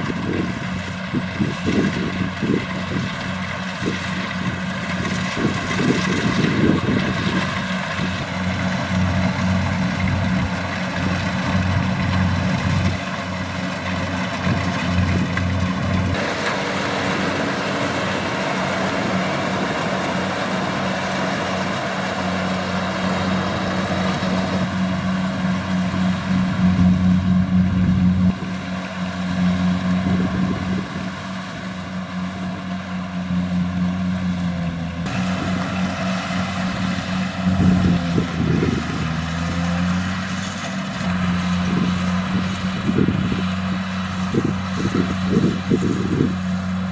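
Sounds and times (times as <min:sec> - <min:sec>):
combine harvester diesel engine: 0:00.0 - 0:46.9.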